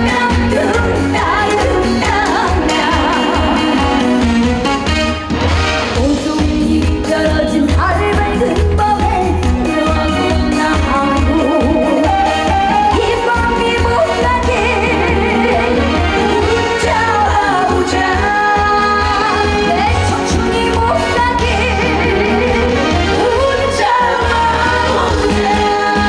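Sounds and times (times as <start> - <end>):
woman singing with vibrato: 0.0 - 4.7, 5.8 - 26.0.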